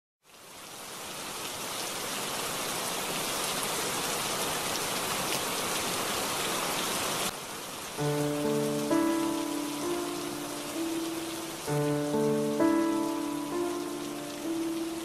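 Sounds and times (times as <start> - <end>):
heavy rain on water: 0.2 - 15.0.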